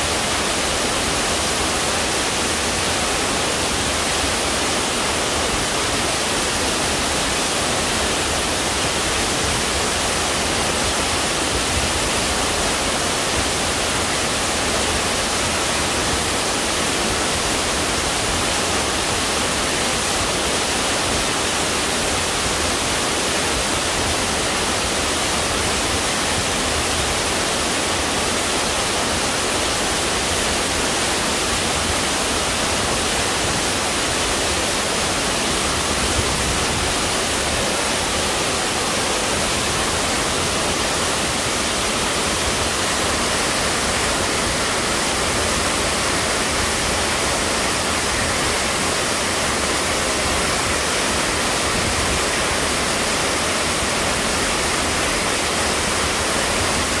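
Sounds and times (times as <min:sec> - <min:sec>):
waterfall rushing into pool: 0:00.0 - 0:57.0.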